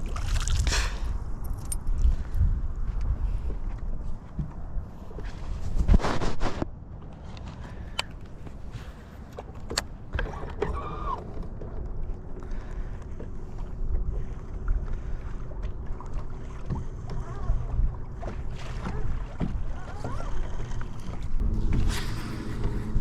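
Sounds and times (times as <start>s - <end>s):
wind and water rumble: 0.0s - 23.0s.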